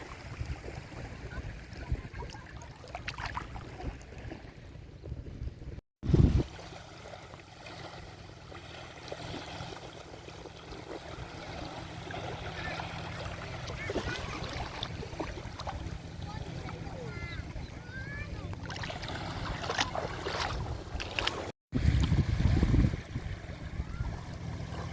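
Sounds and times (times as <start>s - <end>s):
sea waves lapping on shore: 0.0s - 4.9s, 6.0s - 24.9s.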